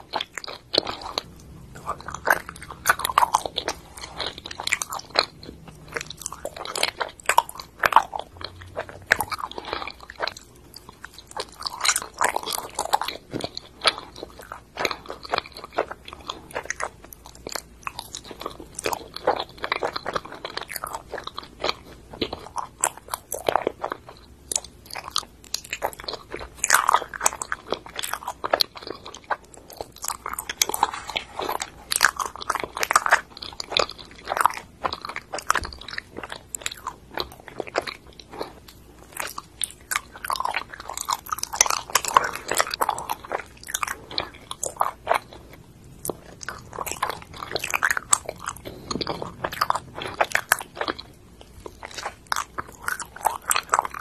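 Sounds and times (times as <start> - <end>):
chewing mouth sounds: 0.0 - 54.0.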